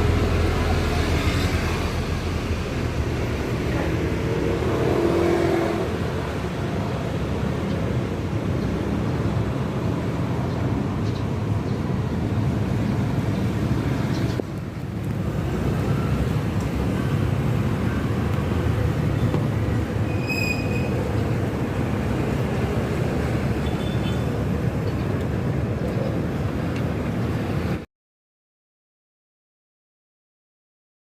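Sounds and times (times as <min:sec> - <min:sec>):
low rumble of road traffic: 0:00.0 - 0:27.9.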